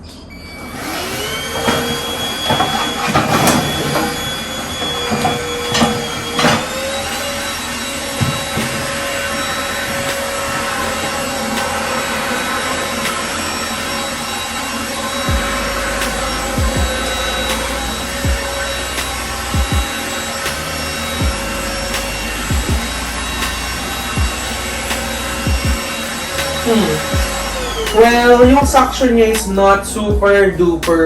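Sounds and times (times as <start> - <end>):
handheld vacuum cleaner motor whine: 0.1 - 29.2.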